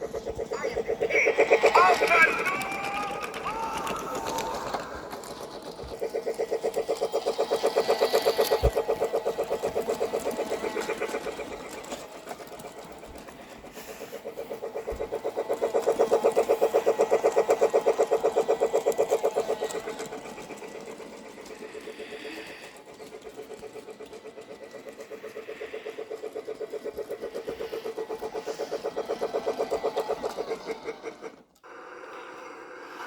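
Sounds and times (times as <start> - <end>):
model train clattering on track: 0.0 - 31.9.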